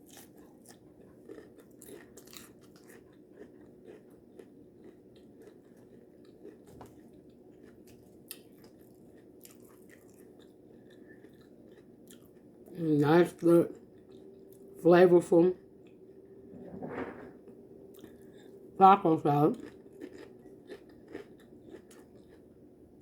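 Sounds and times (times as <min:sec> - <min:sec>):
chewing and light crunching: 0:00.0 - 0:14.8, 0:15.7 - 0:16.2, 0:17.4 - 0:23.0.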